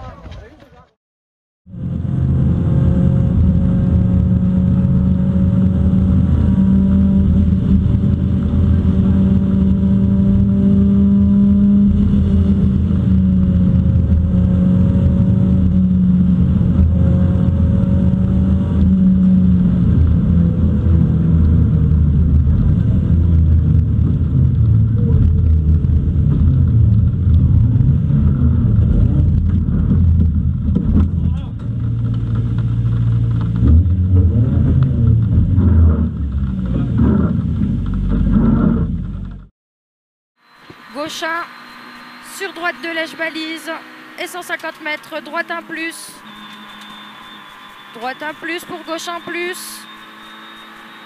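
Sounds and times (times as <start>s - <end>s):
rally car engine running: 1.7s - 39.5s, 40.5s - 51.0s
road and tyre noise: 1.7s - 39.5s, 40.4s - 51.0s.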